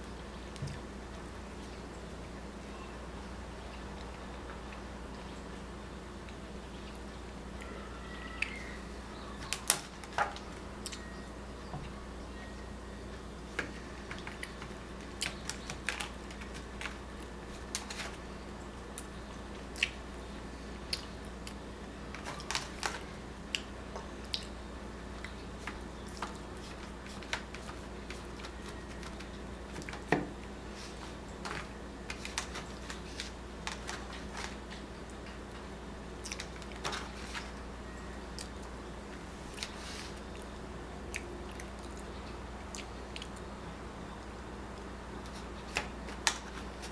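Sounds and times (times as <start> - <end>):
low steady hum: 0.0 - 46.9.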